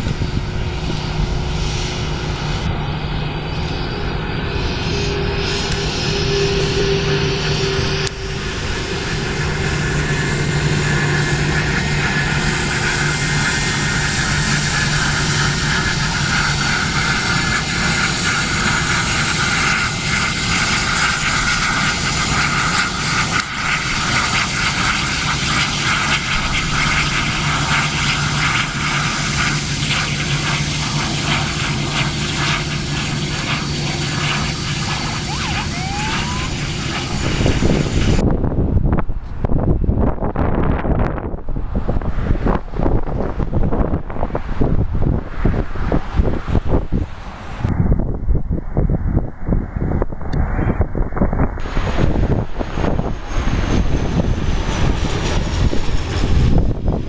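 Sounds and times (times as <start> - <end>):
aircraft engines running: 0.0 - 57.0.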